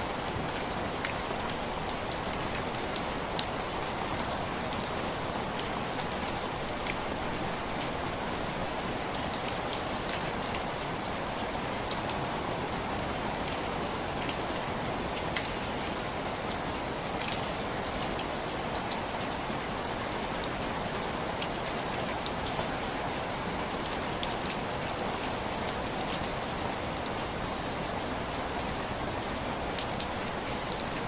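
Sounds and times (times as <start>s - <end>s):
rain on window glass: 0.0s - 31.0s.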